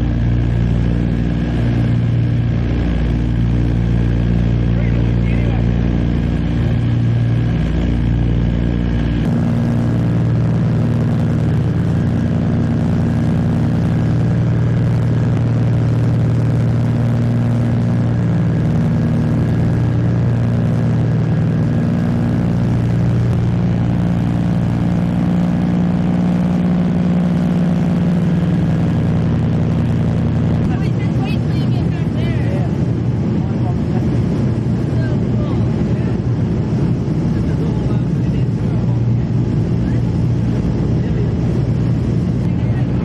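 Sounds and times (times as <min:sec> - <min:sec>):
aircraft propeller engines humming: 0:00.0 - 0:43.0.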